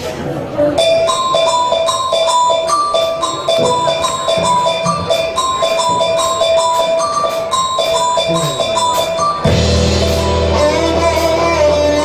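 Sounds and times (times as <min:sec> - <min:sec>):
rock band playing: 0:00.7 - 0:12.0.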